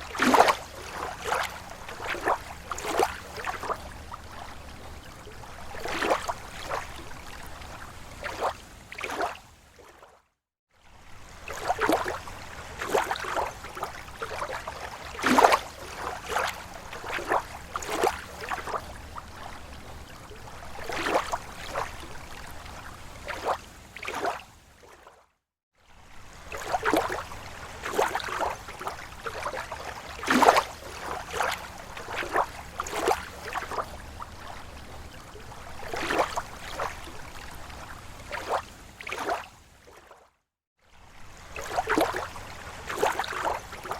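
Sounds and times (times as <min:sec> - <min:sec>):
small waves lapping on shore: 0:00.0 - 0:43.9.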